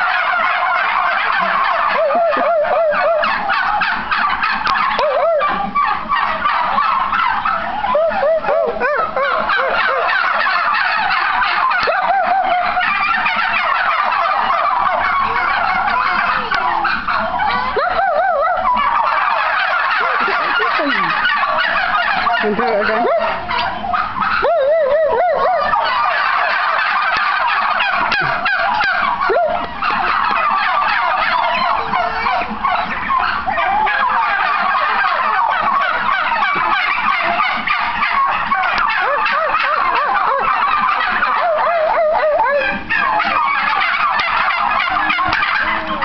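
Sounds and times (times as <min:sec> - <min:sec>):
turkeys gobbling: 0:00.0 - 0:46.0.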